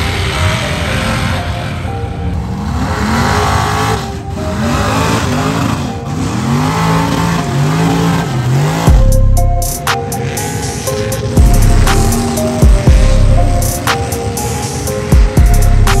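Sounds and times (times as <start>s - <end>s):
truck engines revving hard: 0.0s - 16.0s.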